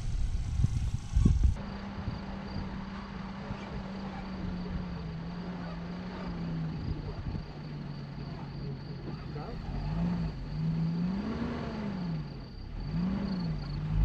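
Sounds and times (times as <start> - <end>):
car engine running: 0.0 - 14.0
insects chirping: 0.0 - 14.0.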